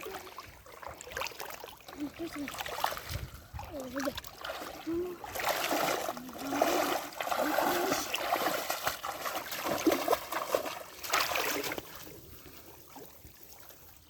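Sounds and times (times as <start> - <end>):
faint water drips: 0.0 - 14.0
pond water splashing: 0.0 - 14.0.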